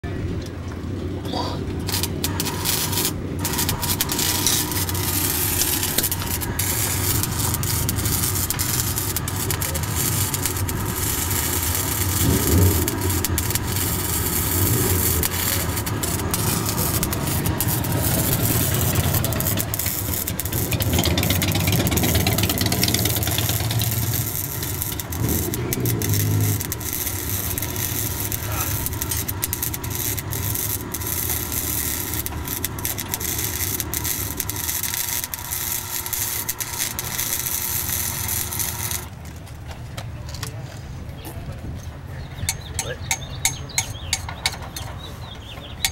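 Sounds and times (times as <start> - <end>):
engine running: 0.0 - 42.1
arc welding crackling hiss: 1.8 - 39.5.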